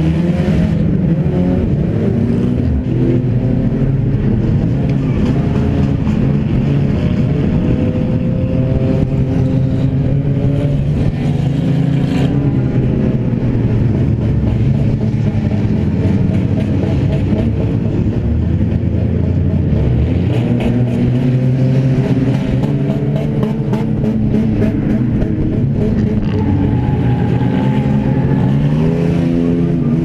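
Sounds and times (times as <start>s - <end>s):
race car engine running hard: 0.0s - 30.0s.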